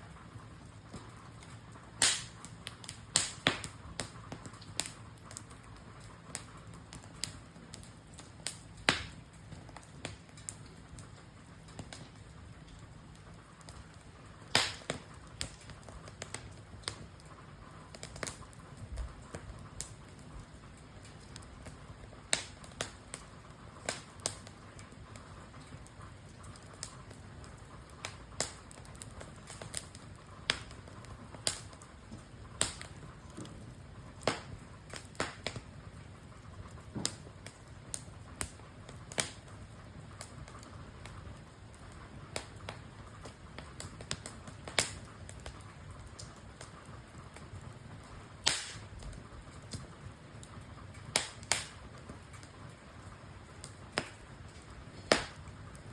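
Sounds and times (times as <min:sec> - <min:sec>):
campfire crackling and popping: 0:00.0 - 0:55.9
fire hissing: 0:00.0 - 0:55.9.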